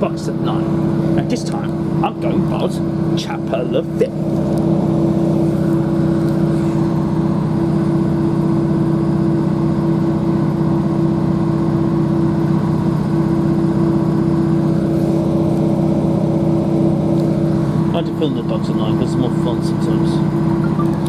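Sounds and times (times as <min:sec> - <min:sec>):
train diesel engine droning: 0:00.0 - 0:21.0.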